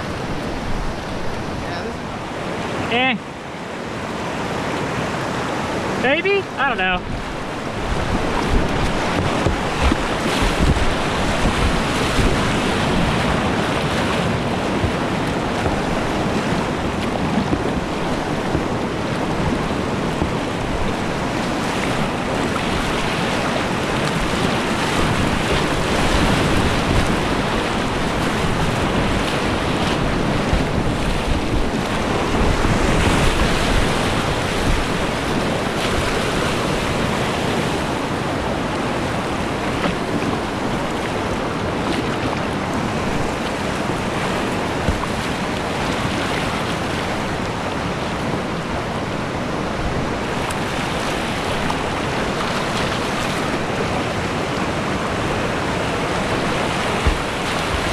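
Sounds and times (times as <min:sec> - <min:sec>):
wind buffeting microphone: 0:00.0 - 0:02.7, 0:04.4 - 0:57.9
whitewater rapids rushing: 0:00.0 - 0:57.9.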